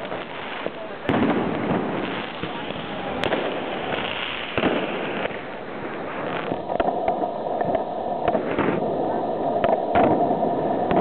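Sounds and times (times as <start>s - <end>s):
fireworks and firecrackers banging: 0.0s - 11.0s.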